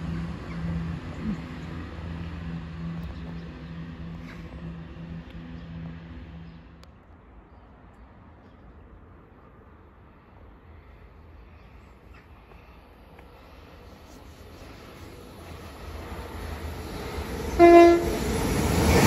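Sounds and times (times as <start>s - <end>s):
diesel train engine drone: 0.0s - 8.0s, 9.0s - 19.0s
outdoor background noise: 0.0s - 19.0s.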